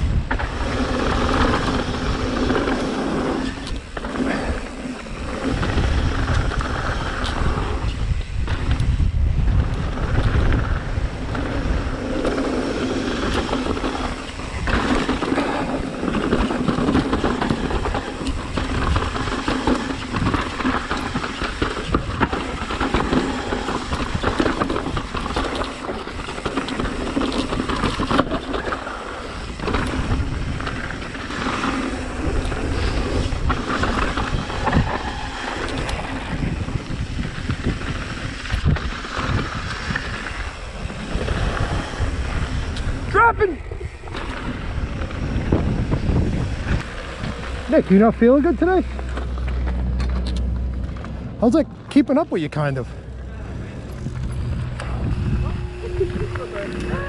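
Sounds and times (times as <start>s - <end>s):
bike rattling over bumps: 0.0s - 57.0s
bike tyres rumbling on dirt: 0.0s - 57.0s.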